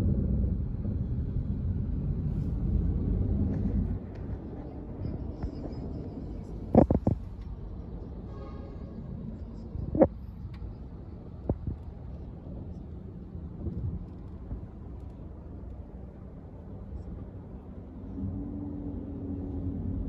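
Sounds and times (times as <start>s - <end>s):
car engine rumble inside cabin: 0.0s - 8.3s, 9.0s - 20.0s
road noise: 0.0s - 20.0s.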